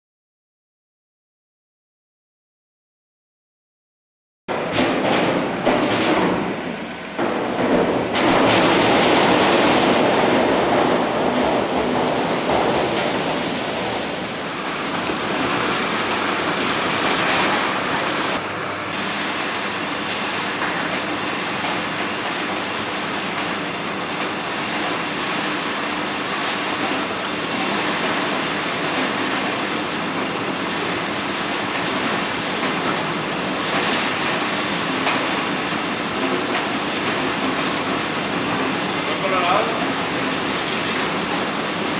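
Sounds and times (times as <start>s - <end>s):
sorting machine clattering: 4.5s - 18.4s, 19.0s - 41.9s.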